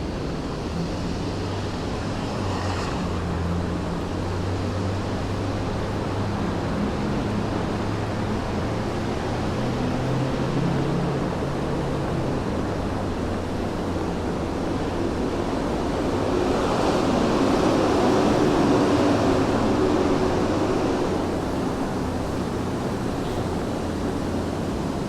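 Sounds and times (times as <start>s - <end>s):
low traffic hum: 0.0s - 25.0s
vehicle passing: 0.0s - 25.0s.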